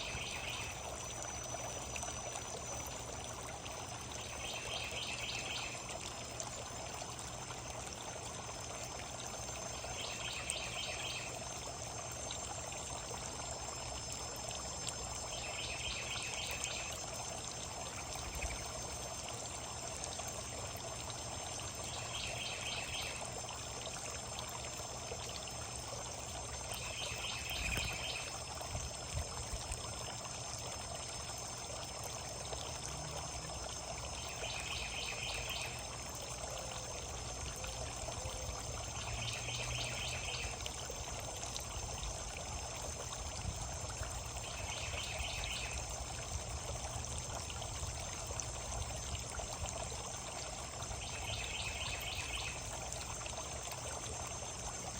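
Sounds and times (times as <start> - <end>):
trickling water: 0.0 - 54.9.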